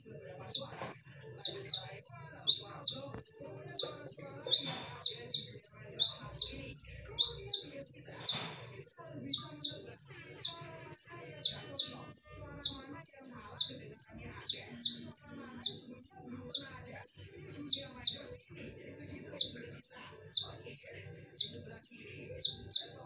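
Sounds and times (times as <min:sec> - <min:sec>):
bird chirping sharply: 0:00.0 - 0:18.7, 0:19.4 - 0:23.0
faint bird twittering: 0:00.0 - 0:23.0.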